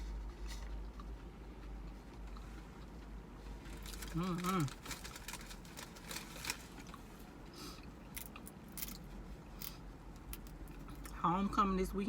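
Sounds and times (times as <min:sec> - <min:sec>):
person chewing: 0:00.0 - 0:05.4, 0:06.4 - 0:11.2.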